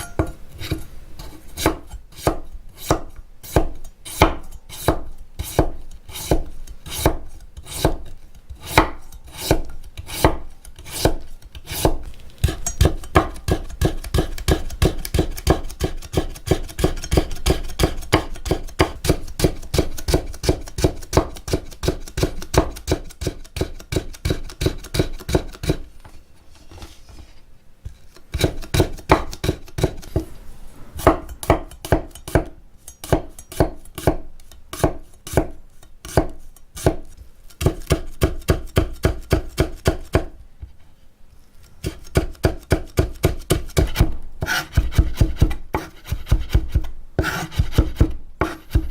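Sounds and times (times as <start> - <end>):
knife chopping on cutting board: 0.0 - 25.9, 28.3 - 30.3, 31.0 - 40.3, 41.8 - 48.9.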